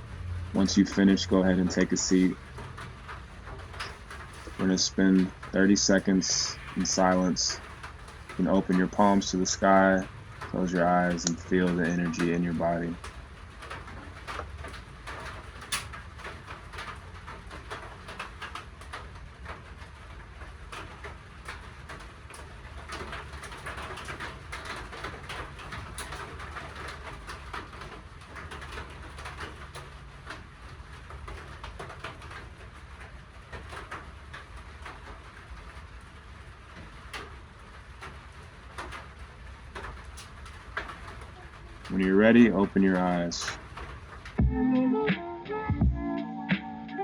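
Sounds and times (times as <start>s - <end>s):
rain falling steadily: 0.0s - 45.5s.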